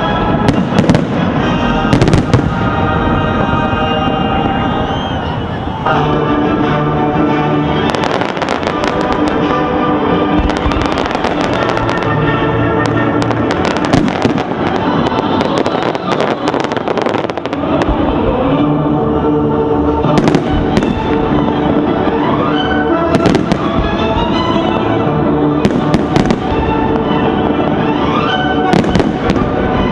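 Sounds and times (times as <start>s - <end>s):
fireworks bangs and crackles: 0.0s - 6.0s, 7.3s - 29.9s
music: 0.0s - 29.9s.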